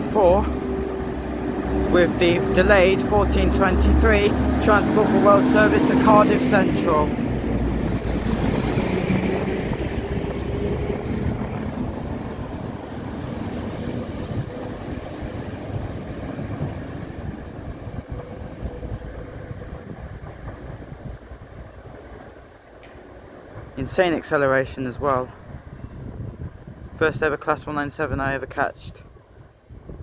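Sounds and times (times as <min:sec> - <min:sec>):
diesel train accelerating: 0:00.0 - 0:27.0.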